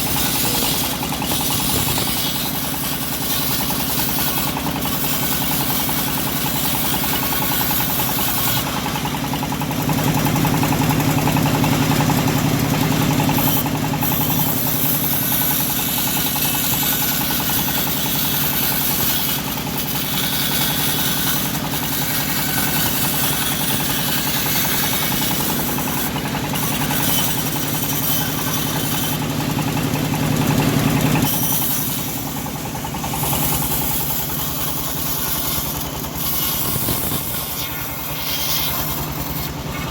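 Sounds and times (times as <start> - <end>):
bandsaw engine running: 0.0 - 39.9.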